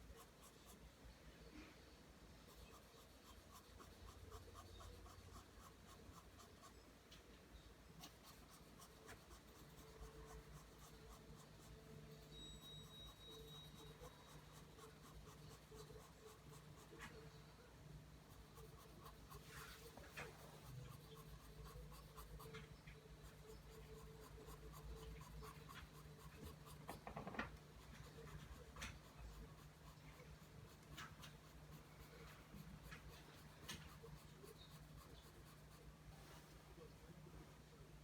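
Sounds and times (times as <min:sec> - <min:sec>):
pencil scratching on paper: 0:00.0 - 0:00.8, 0:02.5 - 0:06.8, 0:08.0 - 0:17.5, 0:18.3 - 0:36.0.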